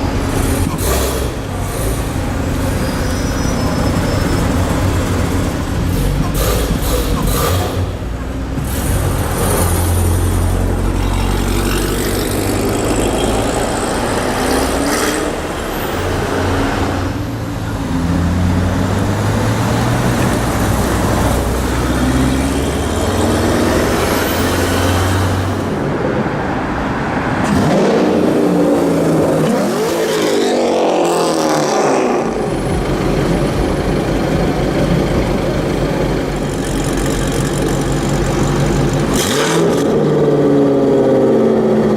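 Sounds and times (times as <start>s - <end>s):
deep rumble of car engines: 0.0s - 41.9s.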